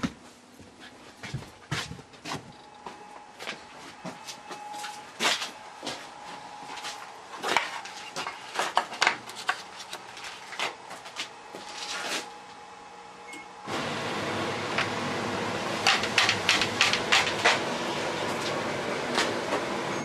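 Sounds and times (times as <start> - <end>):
scanner mechanical running noise: 1.2 - 20.0.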